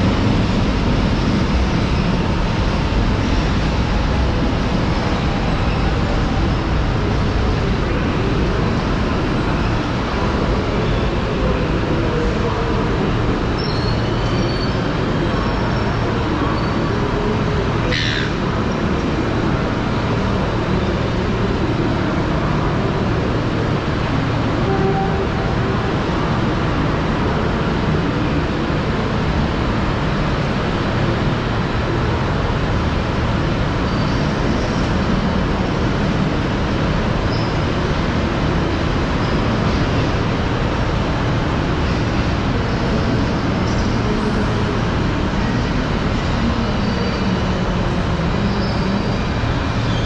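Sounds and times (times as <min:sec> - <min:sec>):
vehicle rumble with hiss: 0:00.0 - 0:50.0.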